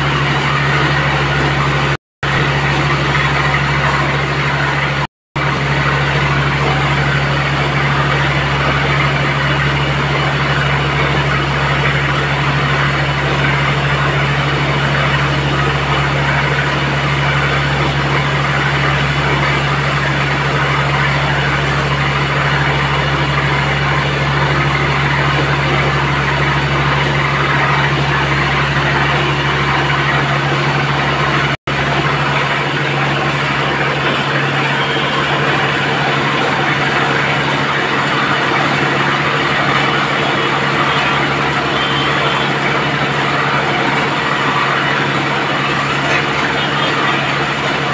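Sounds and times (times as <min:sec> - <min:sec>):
low engine hum: 0:00.0 - 0:47.9.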